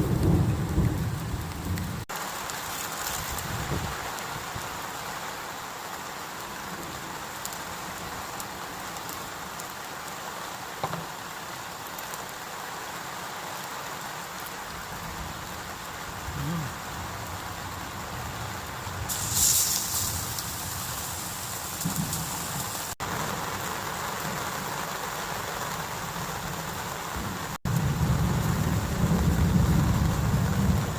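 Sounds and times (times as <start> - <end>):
heavy rain falling: 0.0 - 30.9.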